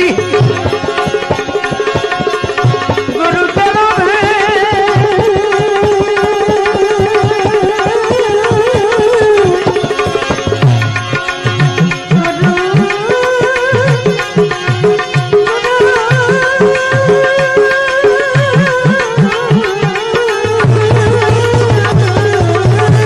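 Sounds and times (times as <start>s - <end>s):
fast hand-drum strokes: 0.0s - 17.6s, 18.3s - 23.0s.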